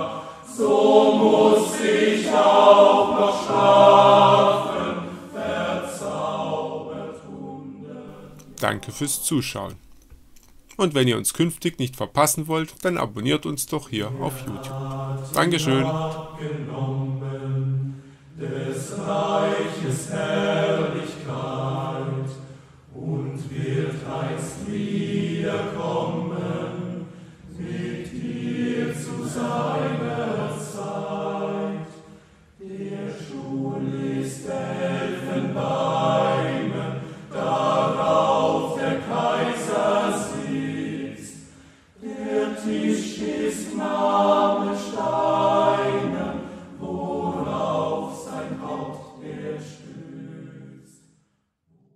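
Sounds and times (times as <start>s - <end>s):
choir singing held chords: 0.0s - 9.8s, 10.8s - 51.9s.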